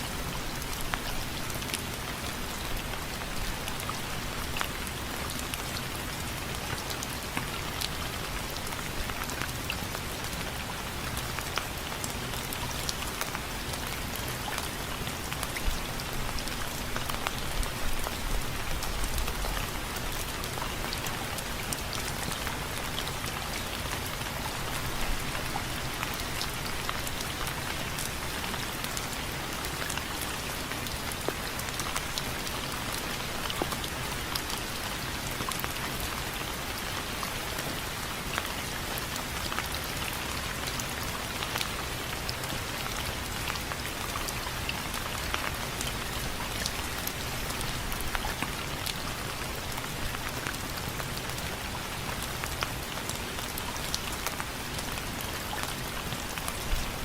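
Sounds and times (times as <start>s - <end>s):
rain on window frames: 0.0s - 57.0s.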